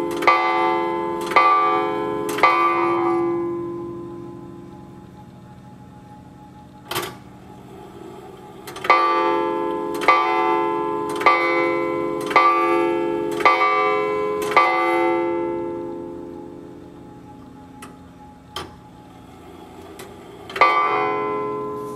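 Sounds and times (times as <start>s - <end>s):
clock striking on gong: 0.0s - 5.4s, 6.8s - 21.9s.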